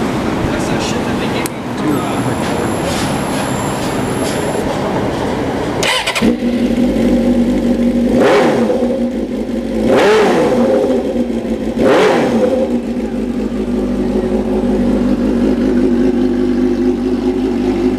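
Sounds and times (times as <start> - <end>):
motorcycle engine idling and revving: 1.6 - 17.9.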